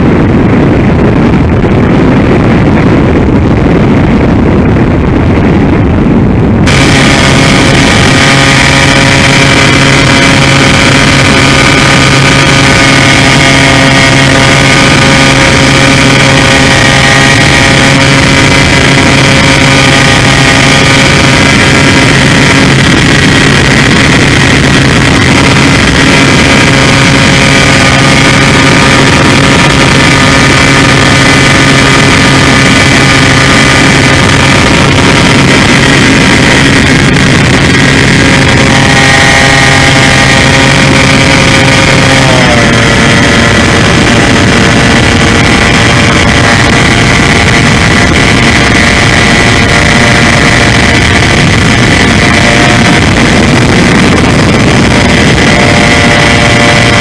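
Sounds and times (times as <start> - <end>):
electric motor and propeller hum: 0.0 - 57.0.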